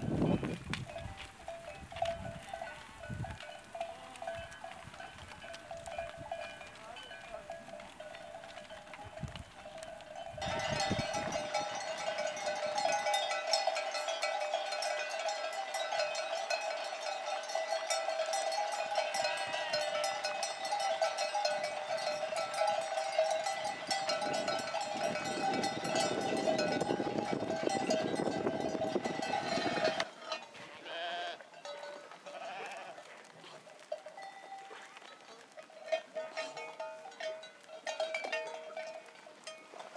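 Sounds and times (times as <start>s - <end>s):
sheep bells jangling: 0.0s - 39.9s.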